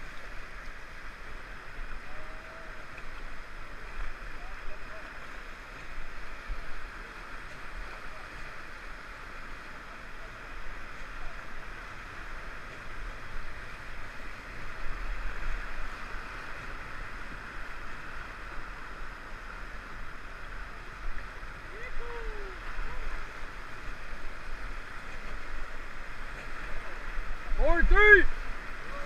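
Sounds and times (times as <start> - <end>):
whitewater rushing: 0.0 - 29.0.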